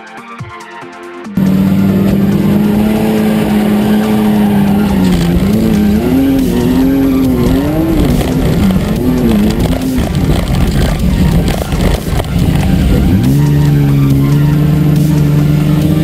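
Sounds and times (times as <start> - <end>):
car engine revving: 1.4 - 16.0.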